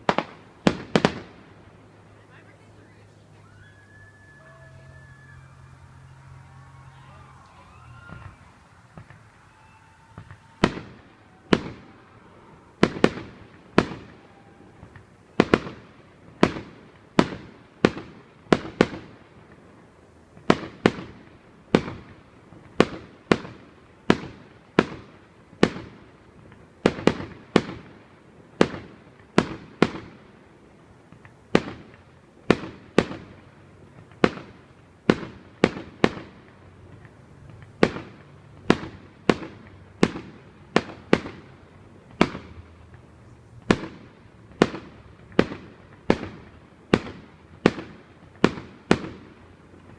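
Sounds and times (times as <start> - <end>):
fireworks banging: 0.0 - 49.9.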